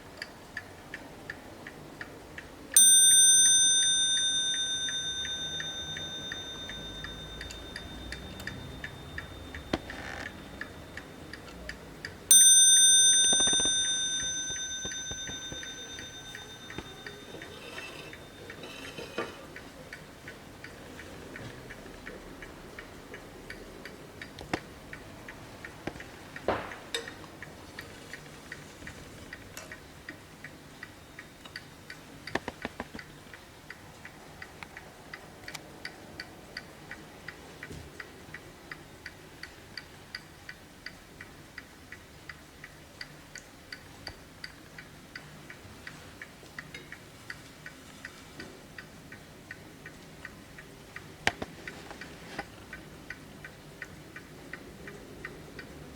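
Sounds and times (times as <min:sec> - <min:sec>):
clock ticking: 0:00.0 - 0:55.9.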